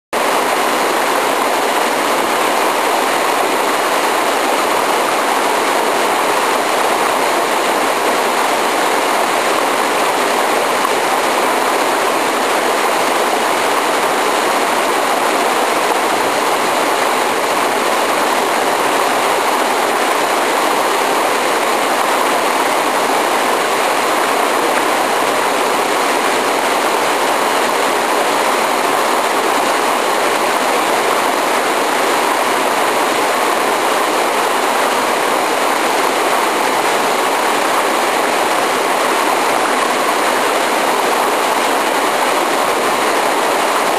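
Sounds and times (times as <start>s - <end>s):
waterfall rushing: 0.2s - 43.9s.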